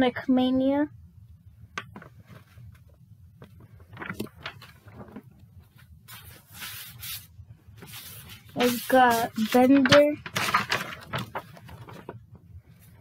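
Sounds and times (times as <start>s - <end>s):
paper rustling: 1.9s - 13.0s.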